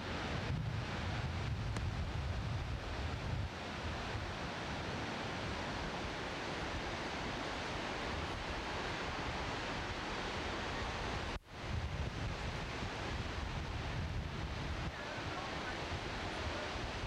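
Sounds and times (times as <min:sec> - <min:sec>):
waterfall roar: 0:00.0 - 0:17.0
wind buffeting microphone: 0:00.0 - 0:17.0.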